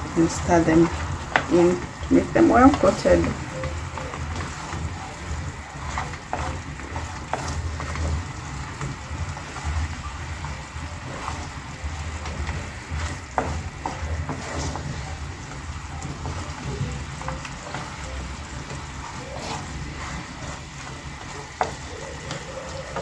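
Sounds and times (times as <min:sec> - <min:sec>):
sauce sizzling and bubbling: 0:00.0 - 0:23.0
utensil clicking against pan: 0:00.1 - 0:23.0.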